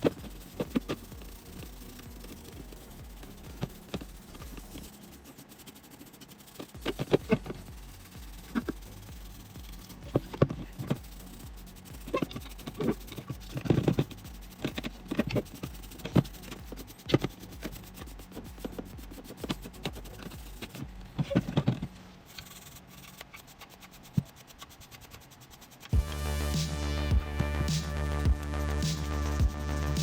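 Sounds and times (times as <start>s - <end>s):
low steady hum: 0.0s - 23.6s, 25.9s - 30.0s
hand rubbing strokes: 0.0s - 30.0s.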